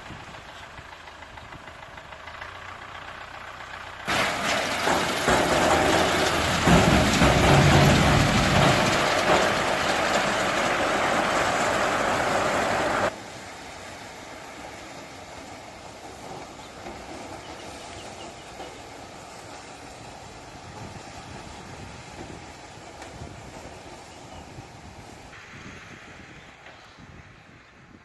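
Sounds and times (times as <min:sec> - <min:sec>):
corn harvester mechanical clatter: 0:00.0 - 0:25.3.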